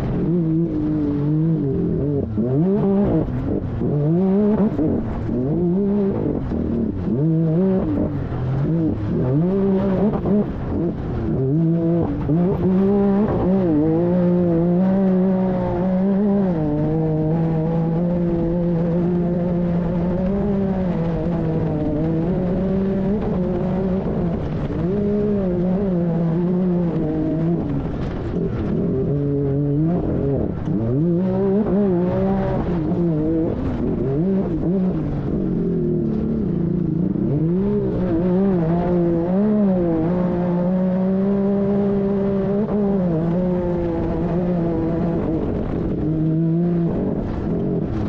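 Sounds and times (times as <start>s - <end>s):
engine revving: 0.0s - 48.0s.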